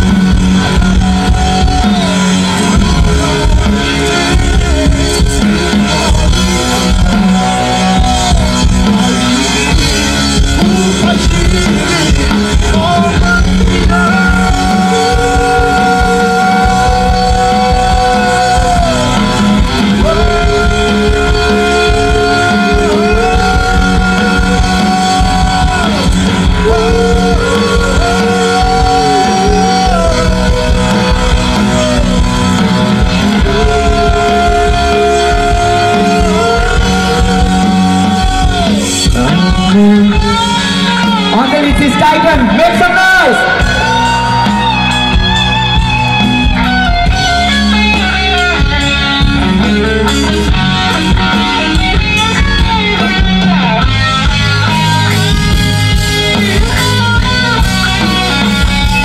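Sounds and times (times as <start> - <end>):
man singing: 0.0 - 47.4
rock band playing: 0.0 - 59.0.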